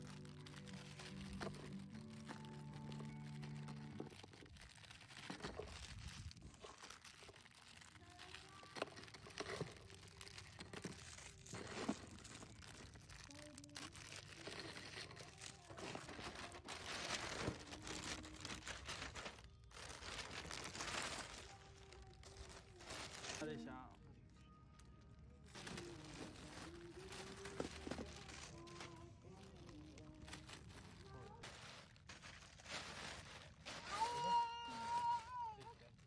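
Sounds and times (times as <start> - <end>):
plastic wrappers crinkling and tearing: 0.0 - 36.0.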